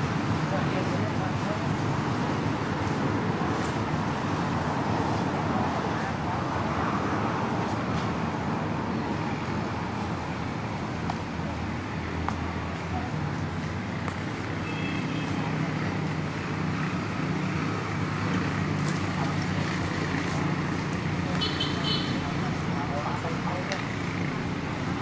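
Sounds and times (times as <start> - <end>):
motor traffic noise: 0.0 - 25.0.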